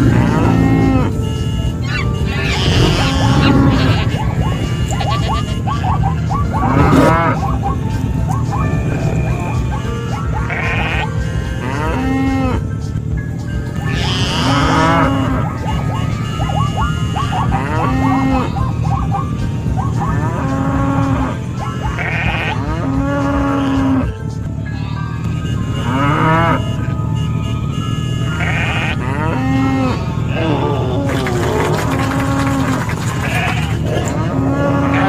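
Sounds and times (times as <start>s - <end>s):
farm animals bleating and mooing: 0.0s - 12.8s, 13.5s - 35.0s.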